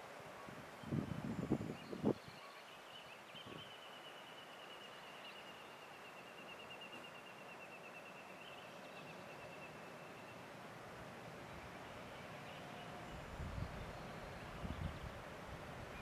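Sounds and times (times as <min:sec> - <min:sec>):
soft outdoor hiss: 0:00.0 - 0:16.0.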